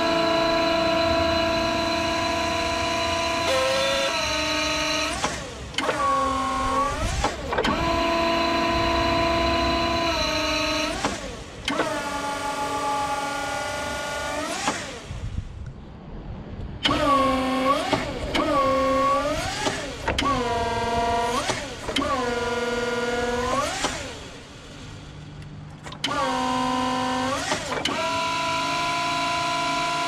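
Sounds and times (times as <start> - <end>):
hydraulic pump motor whine: 0.0 - 15.6, 16.8 - 30.0.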